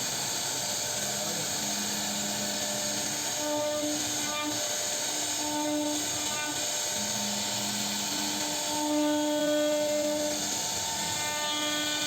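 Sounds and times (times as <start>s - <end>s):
router carving wood: 0.0s - 12.0s.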